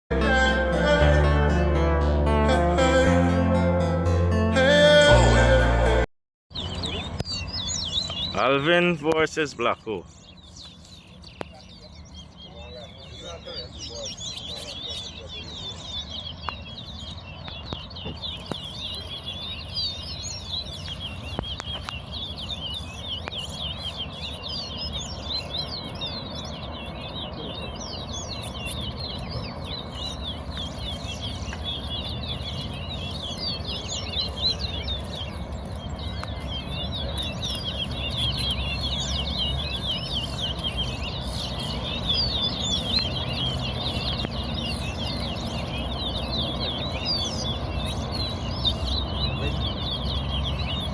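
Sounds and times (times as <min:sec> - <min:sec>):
finches chirping and trilling: 0:06.5 - 0:50.9.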